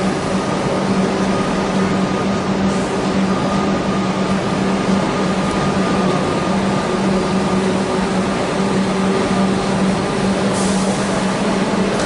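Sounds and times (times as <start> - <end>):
steady low hum: 0.0 - 12.0
train wheels rumbling on rails: 0.0 - 12.0.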